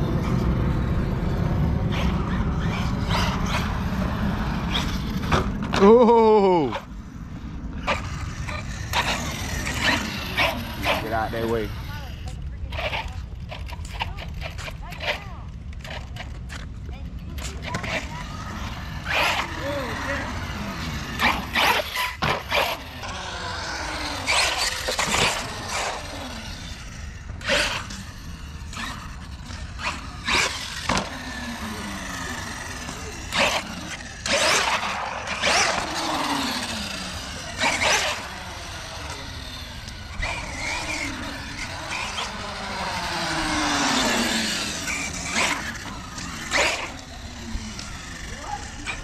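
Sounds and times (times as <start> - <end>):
electric motor whining: 7.2 - 15.0, 17.3 - 49.0.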